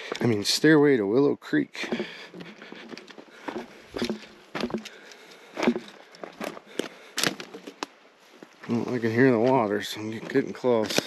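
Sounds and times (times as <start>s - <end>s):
footsteps crunching on loose rock: 0.0s - 11.0s.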